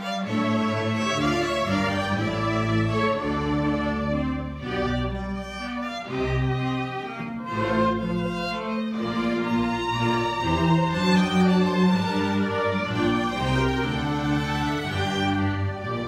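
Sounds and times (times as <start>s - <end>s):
low cello and bass line: 0.0s - 16.0s
violins playing held notes: 0.0s - 16.0s.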